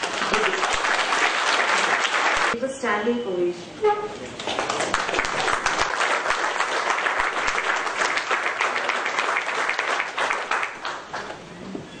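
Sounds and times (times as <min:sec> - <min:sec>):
audience applauding: 0:00.0 - 0:02.6, 0:04.4 - 0:11.5.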